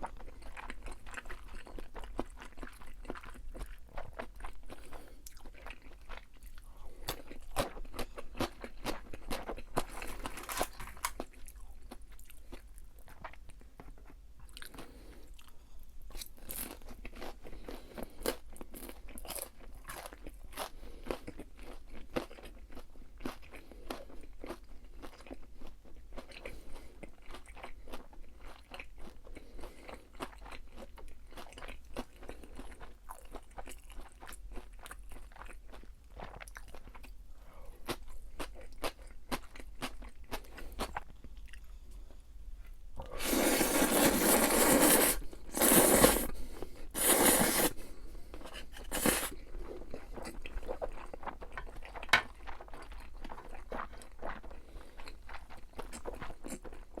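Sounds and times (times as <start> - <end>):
person chewing crispy fried food: 0.0 - 57.0.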